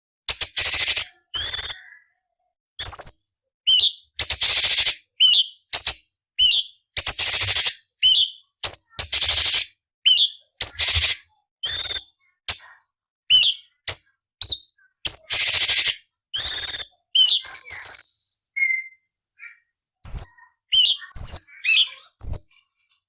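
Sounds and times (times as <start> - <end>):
bird singing: 0.4 - 23.0.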